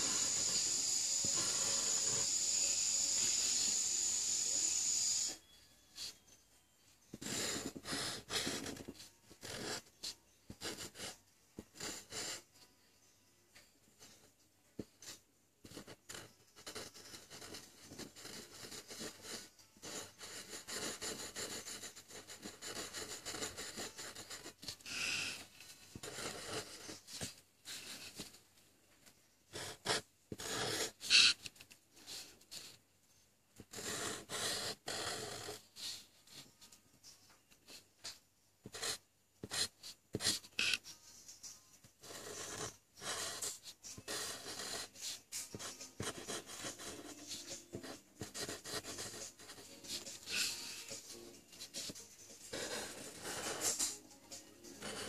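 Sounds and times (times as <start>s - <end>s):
marker scratching on paper: 0.0s - 5.4s, 6.0s - 6.2s, 7.1s - 12.4s, 14.0s - 28.4s, 29.5s - 32.8s, 33.6s - 55.0s.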